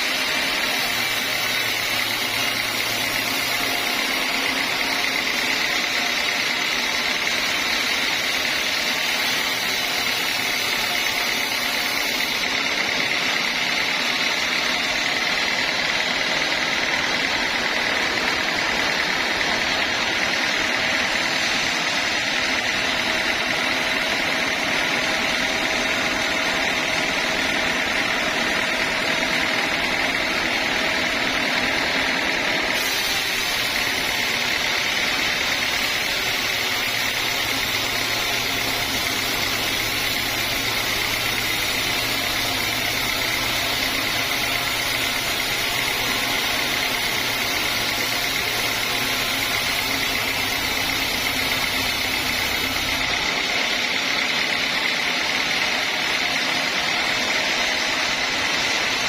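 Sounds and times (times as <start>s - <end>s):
sawmill machinery whining drone: 0.0s - 59.0s.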